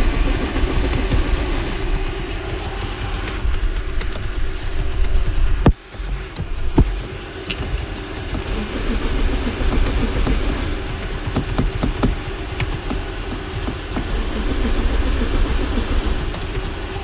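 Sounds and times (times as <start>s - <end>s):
car engine cranking: 0.0s - 17.0s.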